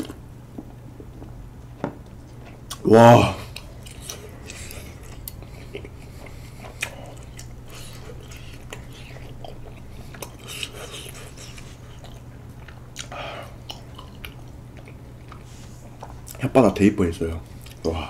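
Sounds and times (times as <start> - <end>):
chewing sticky rice cake: 1.1 - 16.4, 17.4 - 17.9.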